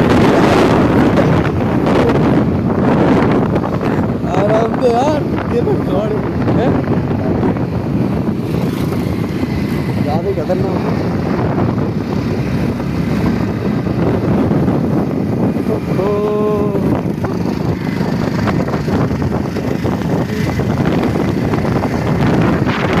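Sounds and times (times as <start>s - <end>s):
vehicle running on road: 0.0s - 23.0s
wind buffeting microphone: 0.0s - 23.0s.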